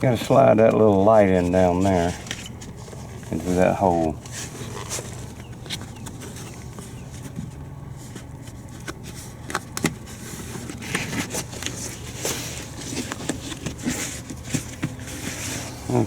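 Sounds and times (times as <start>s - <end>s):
scraping and rustling: 0.0s - 16.0s
steady low hum: 0.0s - 16.0s.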